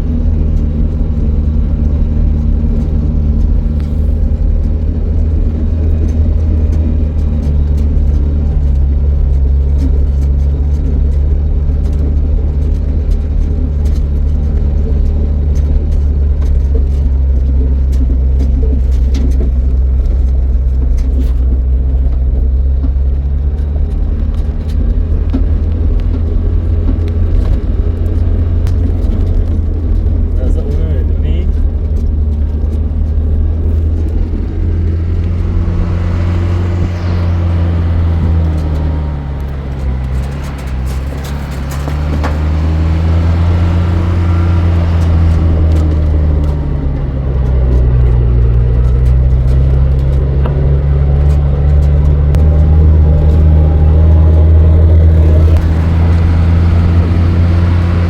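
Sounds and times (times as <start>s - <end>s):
car driving rumble: 0.0s - 58.0s
road noise: 0.0s - 58.0s
vehicle engine drone: 0.0s - 58.0s.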